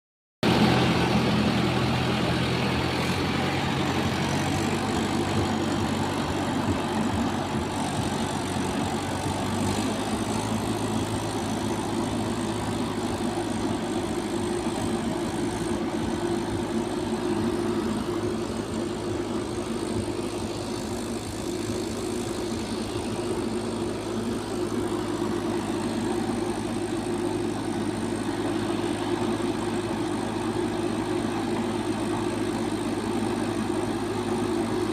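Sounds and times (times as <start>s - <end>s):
heavy diesel engine running: 0.4s - 34.9s.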